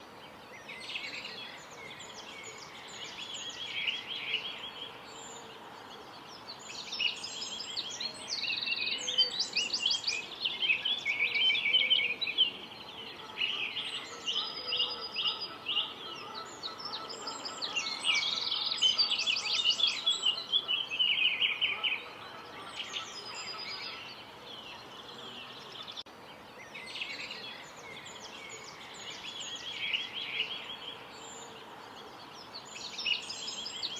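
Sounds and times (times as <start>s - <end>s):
small birds chirping and trilling: 0.0s - 33.9s.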